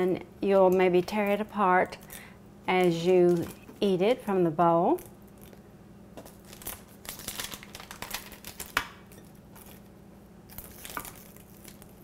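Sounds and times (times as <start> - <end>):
candied popcorn crackling: 0.0 - 12.0.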